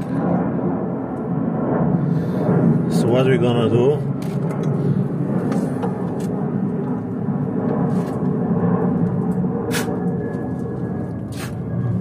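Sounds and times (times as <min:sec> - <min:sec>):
steady rumbling noise: 0:00.0 - 0:12.0.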